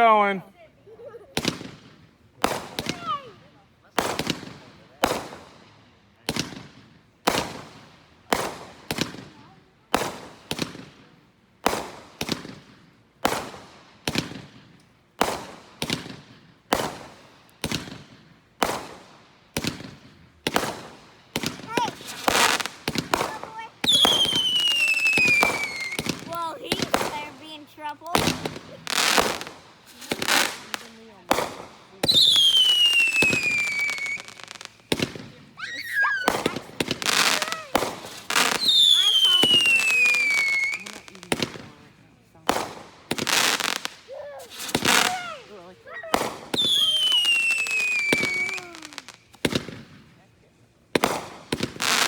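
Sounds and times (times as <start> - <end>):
firework bangs: 1.3 - 50.1, 50.9 - 52.0
firework crackling pops: 1.3 - 50.2, 50.8 - 52.0.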